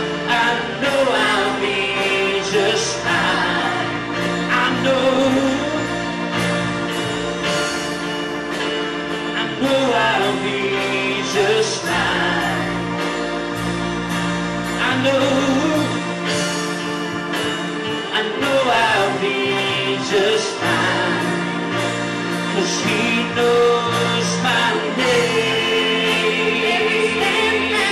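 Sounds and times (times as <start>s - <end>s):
worship team singing: 0.0s - 8.4s, 9.0s - 27.9s
band accompaniment: 0.0s - 27.9s.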